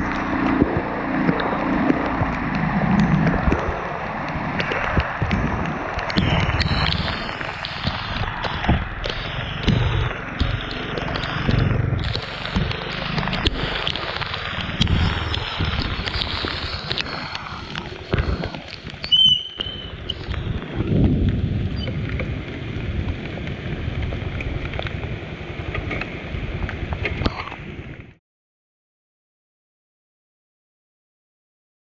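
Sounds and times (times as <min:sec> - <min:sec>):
road and vehicle noise: 0:00.0 - 0:28.2
wind buffeting microphone: 0:00.0 - 0:28.2.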